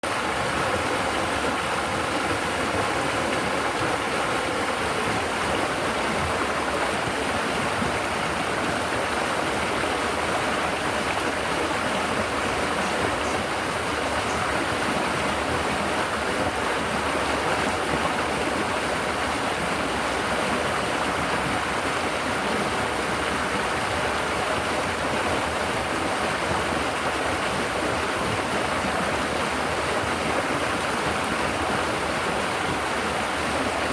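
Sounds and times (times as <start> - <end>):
river water babbling over rocks: 0.0 - 33.9.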